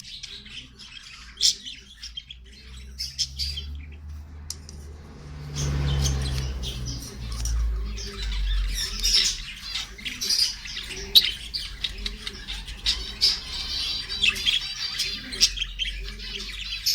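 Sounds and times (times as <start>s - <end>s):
parrots chirping and squawking: 0.0s - 16.9s.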